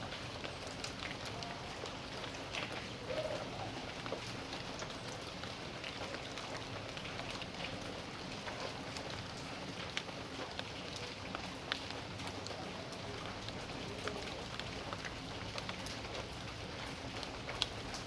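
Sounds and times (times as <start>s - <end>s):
rain patter: 0.0s - 18.0s.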